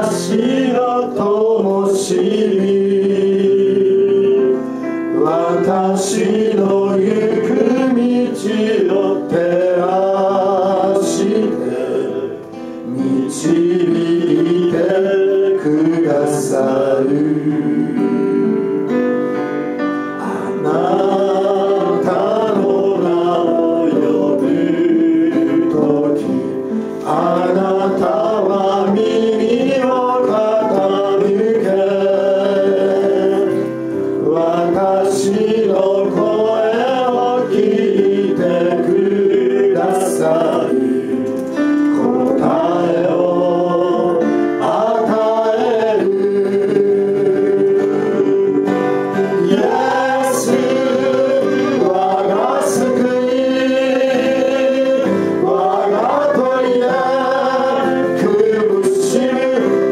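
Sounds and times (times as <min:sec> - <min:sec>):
gospel group singing: 0:00.0 - 0:59.9
instrumental accompaniment: 0:00.0 - 0:59.9.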